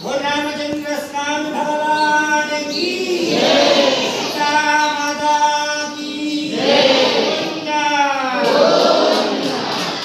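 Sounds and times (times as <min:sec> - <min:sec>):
voices singing a chant: 0:01.7 - 0:10.0.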